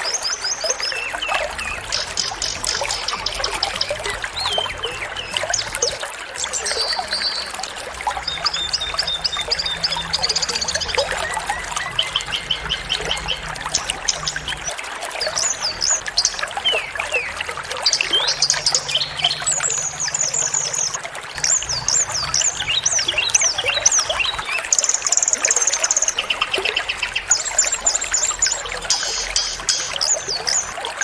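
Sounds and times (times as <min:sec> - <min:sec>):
running water: 0:00.0 - 0:31.0
small songbirds chirping: 0:00.0 - 0:31.0.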